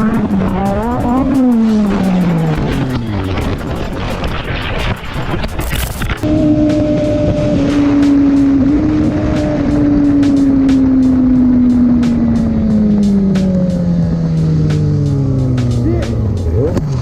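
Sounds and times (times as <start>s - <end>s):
motorcycle engine at high revs: 0.0s - 17.0s
music with steady beat: 0.0s - 17.0s.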